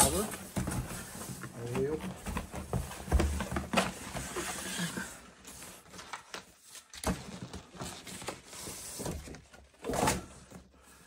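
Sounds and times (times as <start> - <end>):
cardboard rustling and scraping: 0.0 - 10.9.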